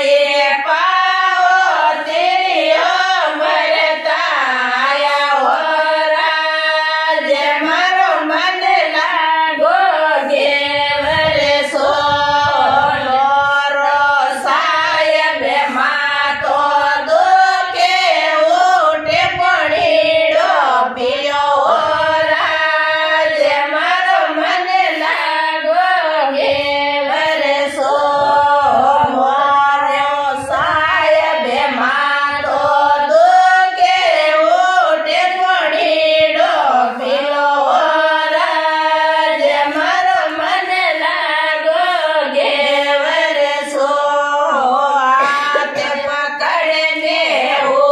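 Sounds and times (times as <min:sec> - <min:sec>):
women singing folk song: 0:00.0 - 0:47.9.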